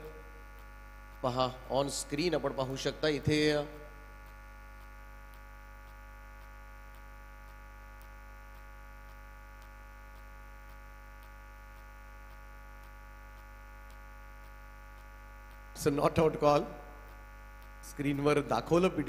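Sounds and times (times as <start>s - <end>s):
faint ticks: 0.0s - 1.4s, 3.9s - 18.3s
electrical mains hum: 0.0s - 19.0s.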